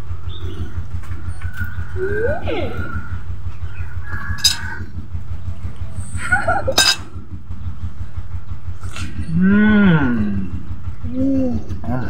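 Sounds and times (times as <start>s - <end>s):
pulsing mechanical hum: 0.0s - 12.0s.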